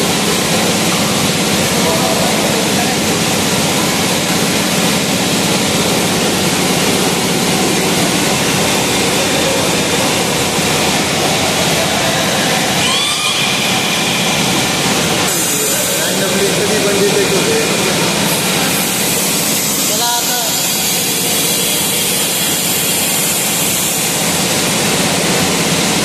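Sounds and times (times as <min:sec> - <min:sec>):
factory machinery roar: 0:00.0 - 0:26.0.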